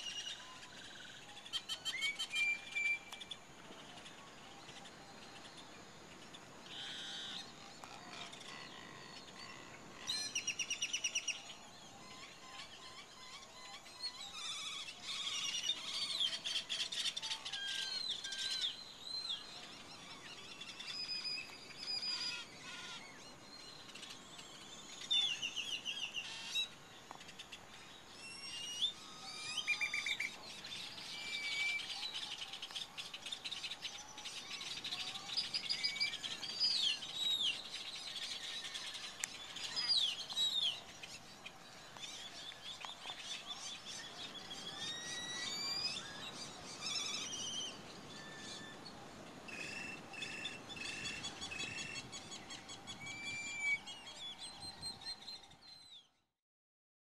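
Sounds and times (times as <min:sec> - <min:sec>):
wild birds calling: 0:00.0 - 0:54.7.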